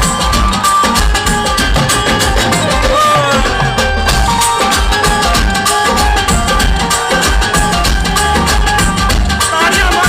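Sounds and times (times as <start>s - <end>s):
drum and bass music: 0.0s - 10.0s.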